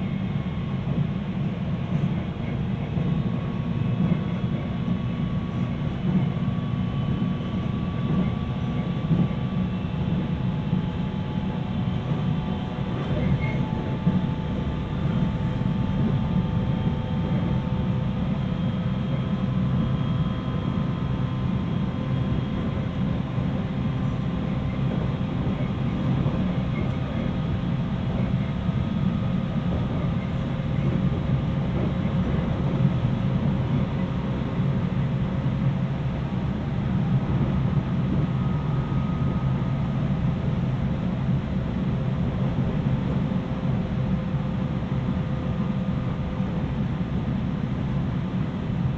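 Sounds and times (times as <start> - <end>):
train interior rumble: 0.0 - 48.9.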